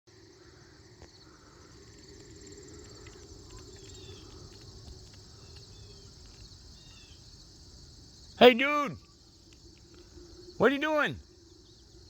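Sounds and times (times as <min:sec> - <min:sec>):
insect chorus: 0:00.1 - 0:12.0.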